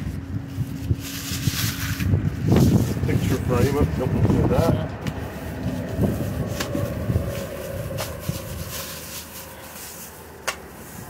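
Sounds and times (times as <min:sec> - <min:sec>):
low rumble: 0:00.0 - 0:11.0
plastic bags rustling: 0:00.0 - 0:11.0.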